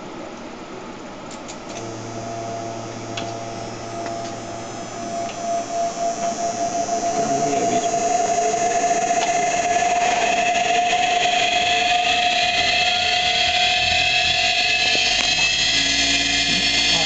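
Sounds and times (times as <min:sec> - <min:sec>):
electric motor whine and hum: 0:01.6 - 0:17.0.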